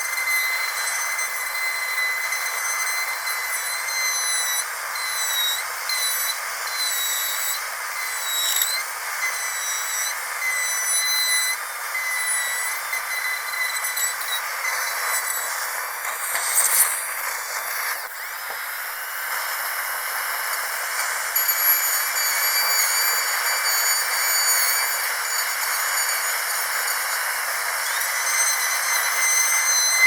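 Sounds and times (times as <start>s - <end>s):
dental drill whining: 0.0s - 30.0s.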